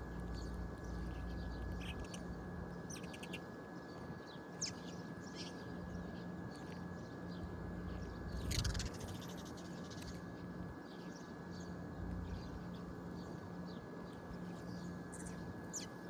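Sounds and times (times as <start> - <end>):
faint steady hum: 0.0 - 16.0
small birds chirping: 0.0 - 16.0.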